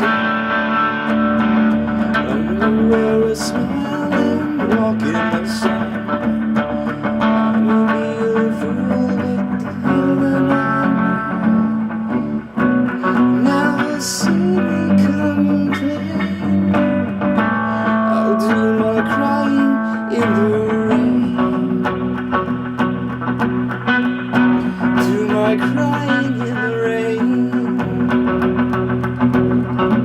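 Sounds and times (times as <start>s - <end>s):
bass line: 0.0s - 30.0s
guitar bending melody notes: 0.0s - 30.0s.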